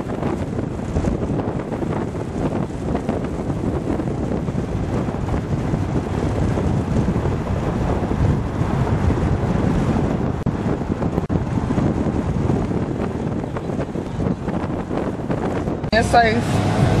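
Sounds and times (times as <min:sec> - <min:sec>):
car road noise inside cabin: 0:00.0 - 0:17.0
wind buffeting microphone: 0:00.0 - 0:17.0.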